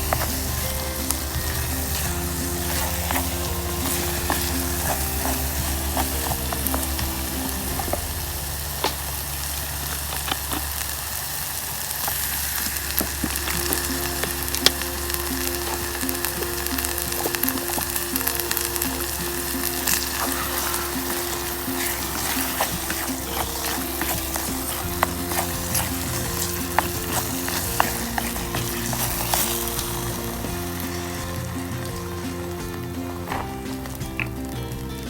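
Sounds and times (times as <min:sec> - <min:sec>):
soft background music: 0:00.0 - 0:10.3, 0:12.7 - 0:35.0
sizzling crackle with pops: 0:00.0 - 0:35.0.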